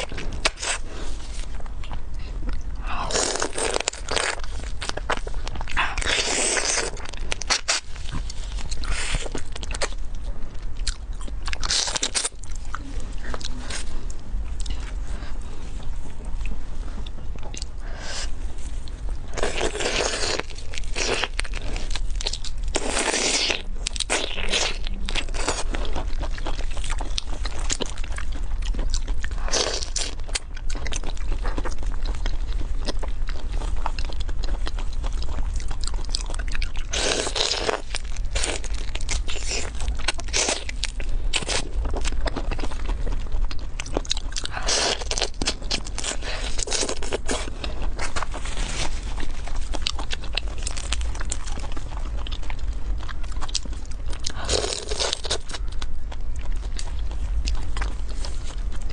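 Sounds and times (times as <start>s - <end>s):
crunching shrimp shells: 1.8s - 13.8s, 19.3s - 58.9s.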